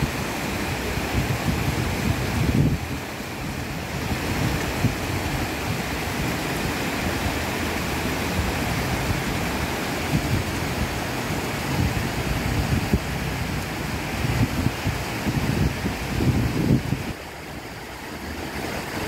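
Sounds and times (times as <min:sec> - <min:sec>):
stream rushing over rocks: 0:00.0 - 0:19.0
wind on microphone: 0:00.0 - 0:19.0.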